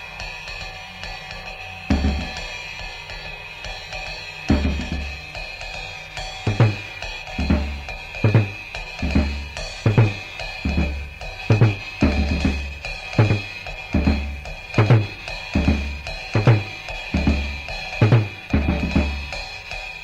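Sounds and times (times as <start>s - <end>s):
drum kit beat: 1.9s - 2.5s, 4.4s - 20.0s.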